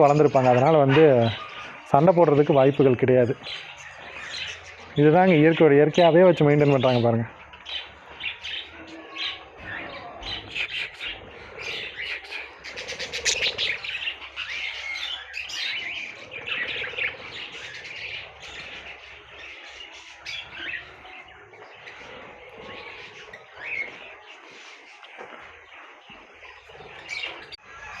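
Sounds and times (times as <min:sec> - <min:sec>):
small birds chirping and squawking: 0:00.0 - 0:28.0.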